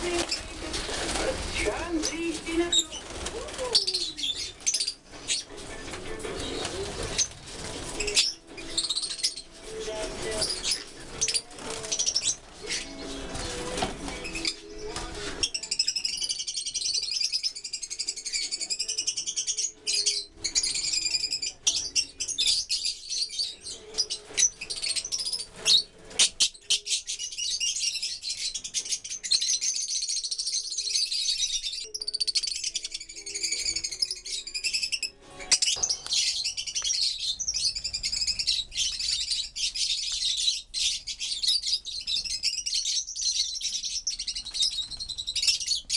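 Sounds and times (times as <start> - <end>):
lovebirds chattering: 0.0 - 45.9.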